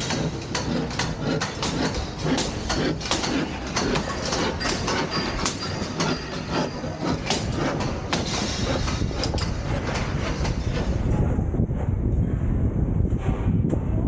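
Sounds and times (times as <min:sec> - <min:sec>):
knocks and clanks: 0:00.0 - 0:11.4
steady low rumble: 0:00.0 - 0:14.0.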